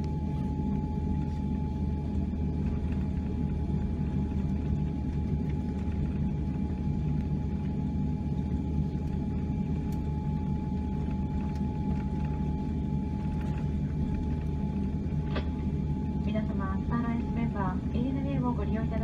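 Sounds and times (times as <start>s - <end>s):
airliner cabin rumble: 0.0s - 19.0s
thin steady whine: 0.0s - 19.0s.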